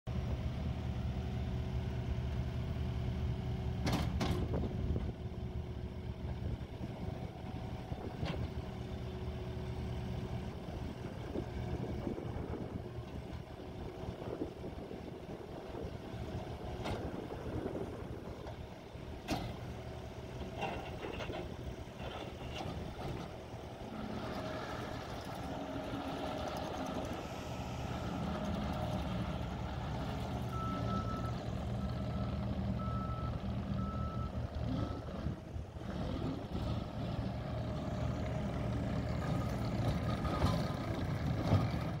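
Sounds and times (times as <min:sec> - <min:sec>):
diesel engine running: 0:00.1 - 0:42.0.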